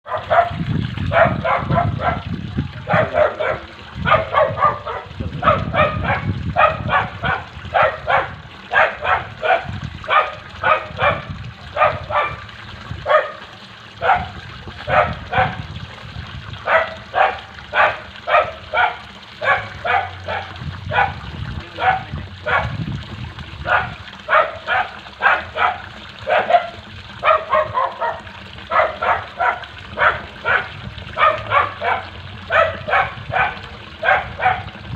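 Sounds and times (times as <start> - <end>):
dog barking: 0.0 - 12.4, 13.0 - 13.4, 14.0 - 15.6, 16.6 - 21.2, 21.8 - 22.8, 23.6 - 34.8.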